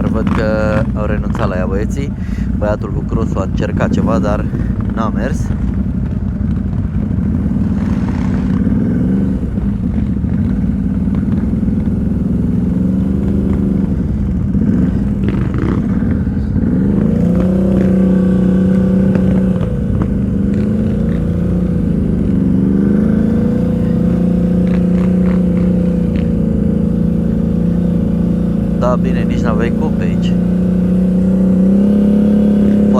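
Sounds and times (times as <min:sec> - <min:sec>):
atv engine running: 0:00.0 - 0:32.9.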